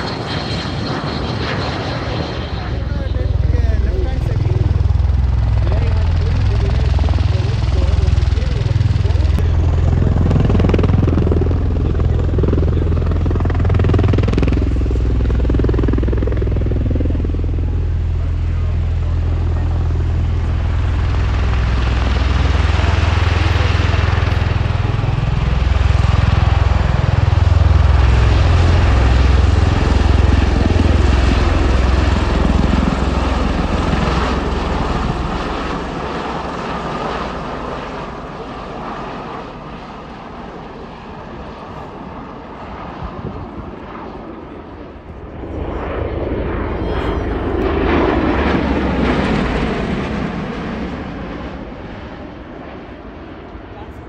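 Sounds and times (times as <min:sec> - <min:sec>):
deep aircraft rotor drone: 0:00.0 - 0:54.0.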